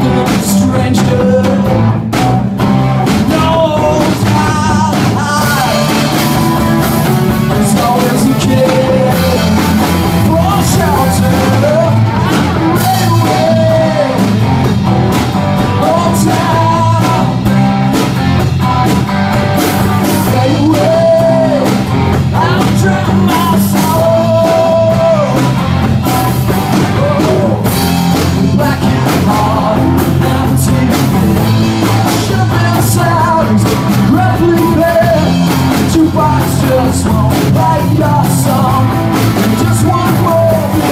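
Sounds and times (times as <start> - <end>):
person singing lead vocals: 0.0 - 2.2, 3.0 - 40.9
rock band playing: 0.0 - 40.9.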